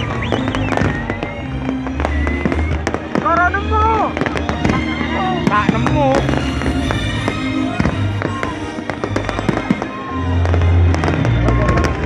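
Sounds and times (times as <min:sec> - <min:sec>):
fireworks pops and crackles: 0:00.0 - 0:12.0
music playing: 0:00.0 - 0:12.0.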